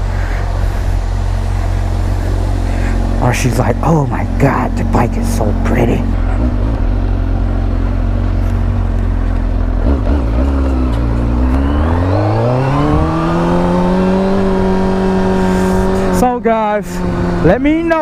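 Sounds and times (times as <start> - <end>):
vehicle engine accelerating: 0.0 - 18.0.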